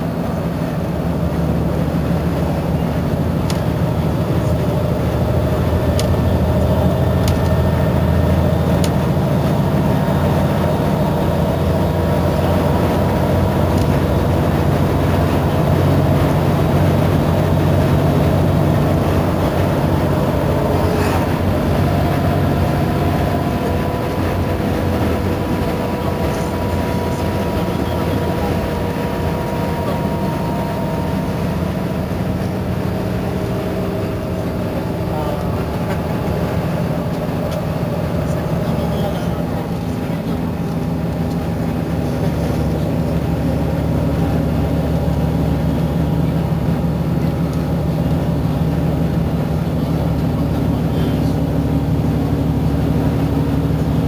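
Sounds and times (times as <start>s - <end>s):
bus diesel engine idling: 0.0s - 54.0s
thin steady whine: 0.0s - 54.0s.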